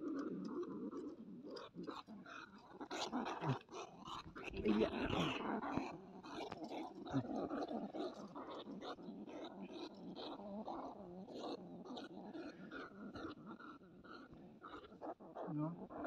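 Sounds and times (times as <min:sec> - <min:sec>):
rat calling: 0:00.0 - 0:16.0.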